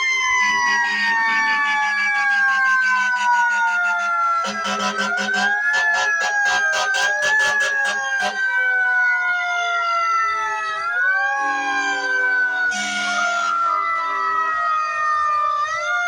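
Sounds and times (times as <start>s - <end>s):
fire truck sirens wailing: 0.0s - 16.0s.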